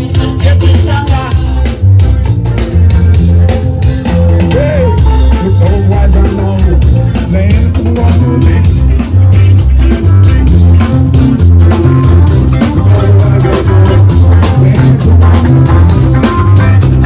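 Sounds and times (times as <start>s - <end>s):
instrumental band music: 0.0s - 17.0s.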